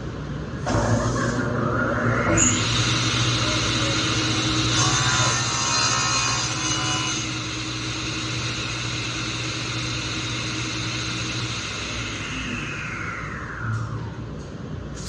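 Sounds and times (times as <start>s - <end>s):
saw motor hum: 1.9s - 14.3s.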